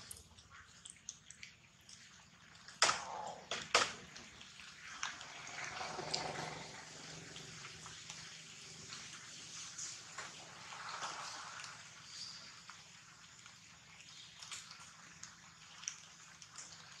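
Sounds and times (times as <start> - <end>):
trickling water: 0.0 - 17.0.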